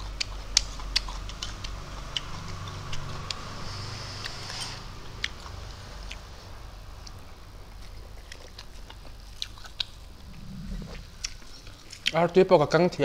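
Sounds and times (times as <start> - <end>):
man chewing food: 0.0 - 12.2.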